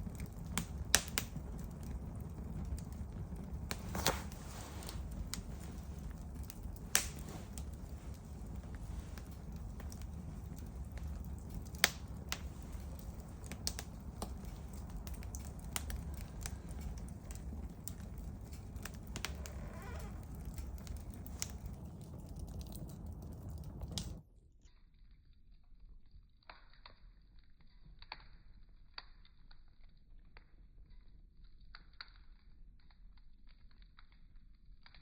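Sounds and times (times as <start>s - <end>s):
campfire crackling and popping: 0.0s - 24.3s, 26.3s - 35.0s
low rumble of burning: 0.0s - 35.0s.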